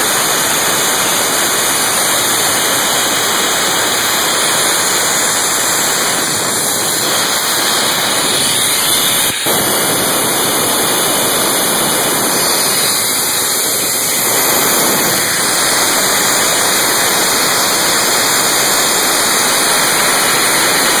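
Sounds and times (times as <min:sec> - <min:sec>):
air compressor rushing: 0:00.0 - 0:21.0.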